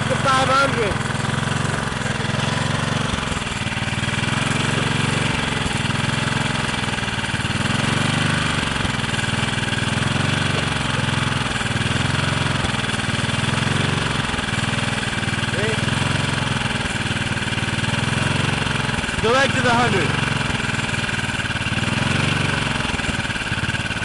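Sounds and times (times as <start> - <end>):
hissing exhaust: 0.0 - 24.0
small engine humming: 0.0 - 24.0.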